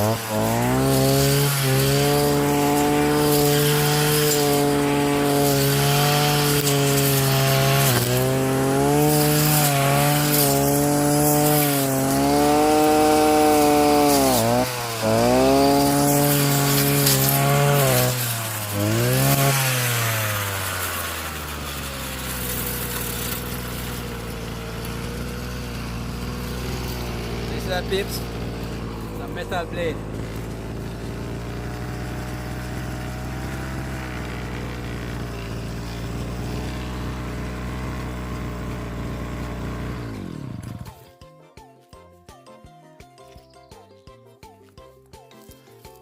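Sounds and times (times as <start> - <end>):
saw blade cutting wood: 0.0 - 41.0
brush cutter engine: 0.0 - 41.1.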